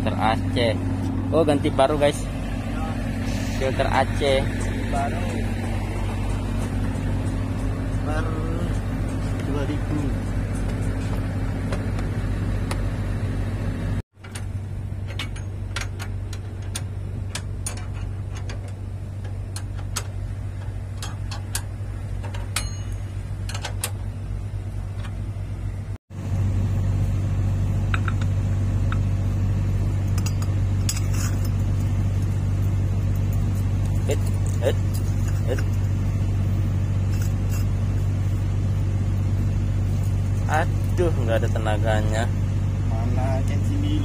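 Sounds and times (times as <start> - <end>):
truck engine idling: 0.0 - 44.0.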